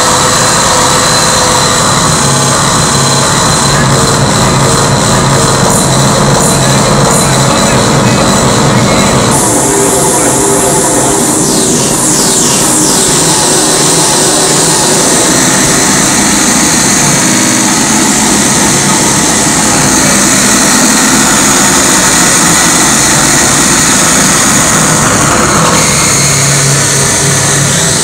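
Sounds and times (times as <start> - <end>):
held low tones: 0.0 - 28.0
hissing noise music: 0.0 - 28.0.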